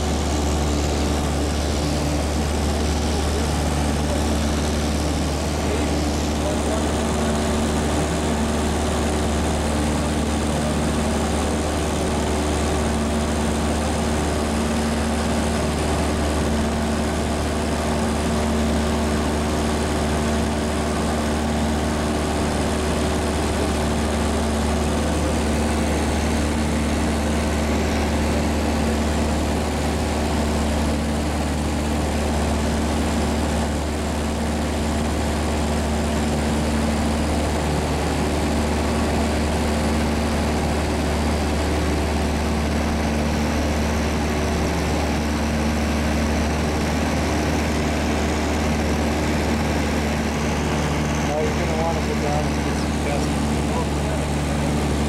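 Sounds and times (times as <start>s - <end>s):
propeller airplane engine droning: 0.0s - 55.0s.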